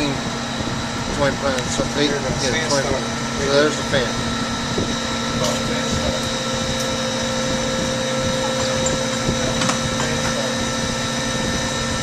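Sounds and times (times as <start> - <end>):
refrigeration fan whirring hum: 0.0 - 12.0.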